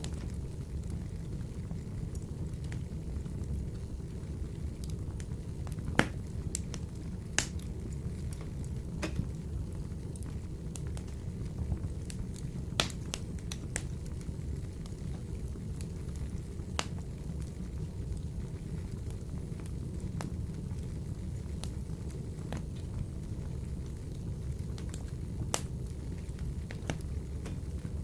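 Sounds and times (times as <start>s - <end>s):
fire rumbling in stove: 0.0s - 28.0s
logs crackling and popping: 0.0s - 28.0s.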